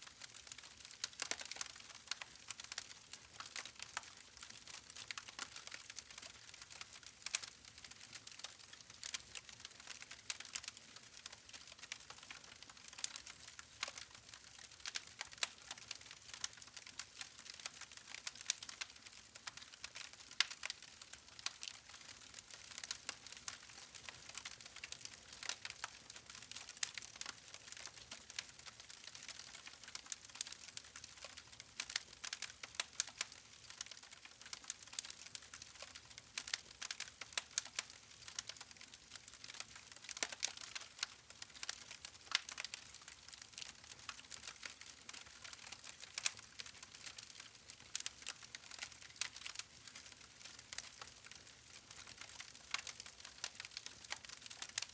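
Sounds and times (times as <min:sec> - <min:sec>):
wood fire crackling: 0:00.2 - 0:54.9.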